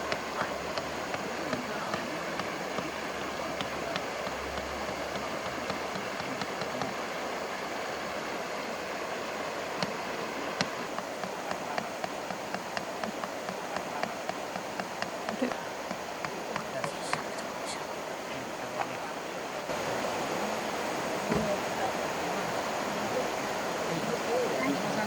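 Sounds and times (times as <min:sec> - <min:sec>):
stream rushing and trickling: 0:00.0 - 0:25.0.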